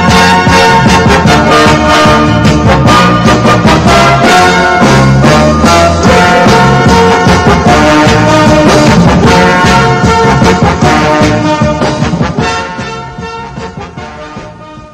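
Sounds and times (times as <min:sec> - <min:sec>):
brass horns music: 0:00.0 - 0:14.9
steady beat: 0:00.0 - 0:14.9.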